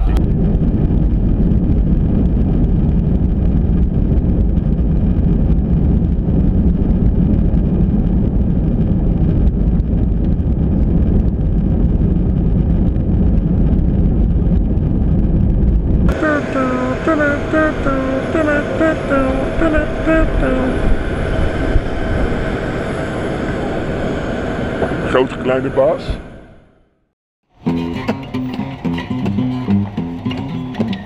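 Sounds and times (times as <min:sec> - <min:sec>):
jet engines and rushing air: 0:00.0 - 0:27.2.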